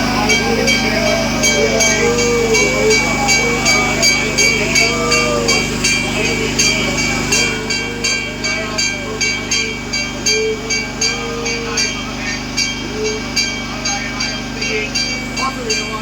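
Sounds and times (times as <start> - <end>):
metal hand bell ringing: 0.0 - 16.0
person chanting: 0.0 - 16.0
steady low hum: 0.0 - 16.0.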